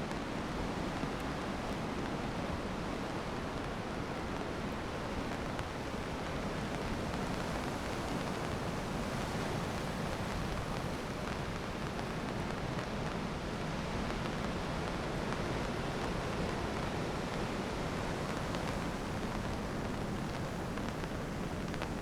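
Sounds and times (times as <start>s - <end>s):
rain: 0.0s - 22.0s.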